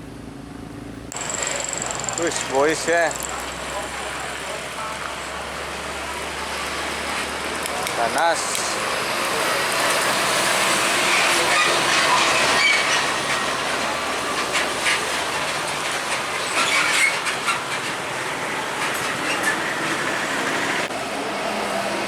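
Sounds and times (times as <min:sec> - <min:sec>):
heavy trucks rolling past: 0:00.0 - 0:22.0
trailers rattling: 0:01.1 - 0:22.0.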